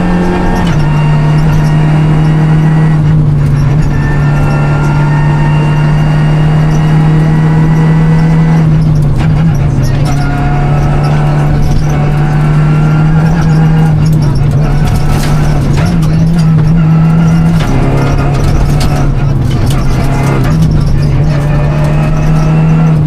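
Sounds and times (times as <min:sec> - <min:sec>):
car engine running hard: 0:00.0 - 0:23.0
road noise: 0:00.0 - 0:23.0.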